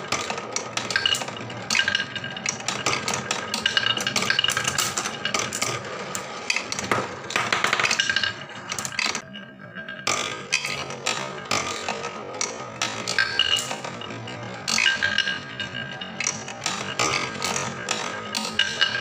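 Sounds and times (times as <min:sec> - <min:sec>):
marbles rolling on wooden run: 0:00.0 - 0:09.3, 0:09.9 - 0:19.0.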